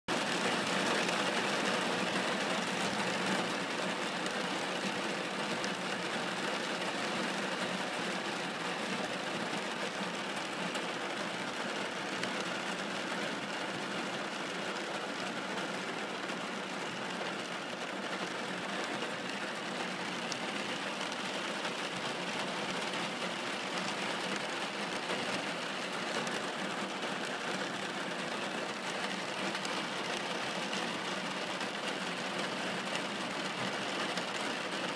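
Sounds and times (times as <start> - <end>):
rain pattering on glass: 0.2 - 34.9.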